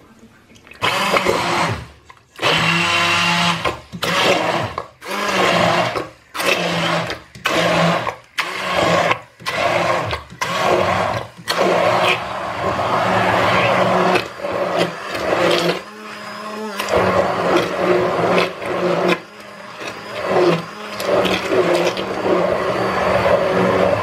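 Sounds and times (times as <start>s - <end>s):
immersion blender motor whirring: 0.8s - 24.0s.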